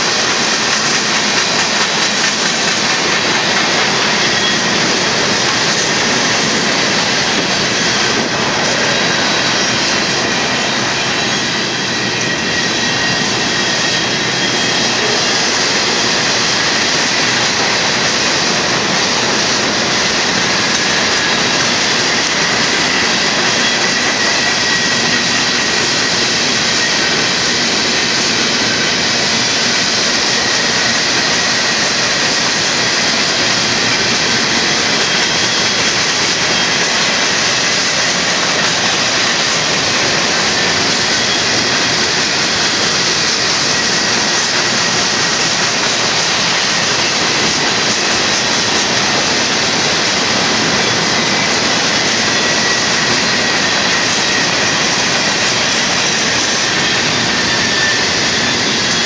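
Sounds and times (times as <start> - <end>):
freight train wheels rumbling and rattling: 0.0 - 59.0.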